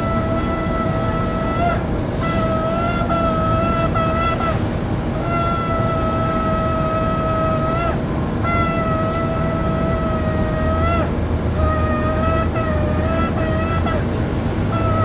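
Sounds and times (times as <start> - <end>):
shofar blasts: 0.0 - 15.0.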